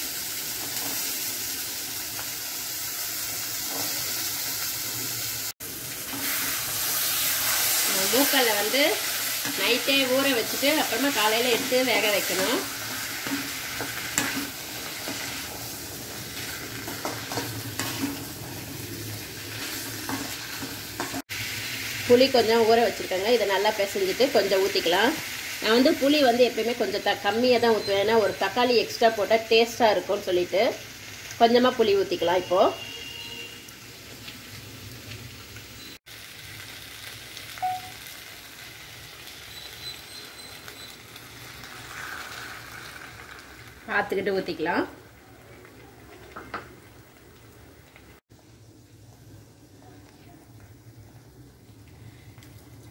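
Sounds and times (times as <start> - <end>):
chickpeas sizzling in a pan: 0.0 - 52.9.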